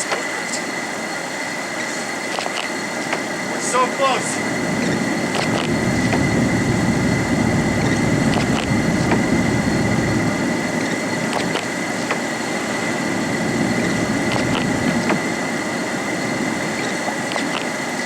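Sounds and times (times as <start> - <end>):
faint high whine: 0.0 - 18.0
vehicle engine running: 3.1 - 17.6.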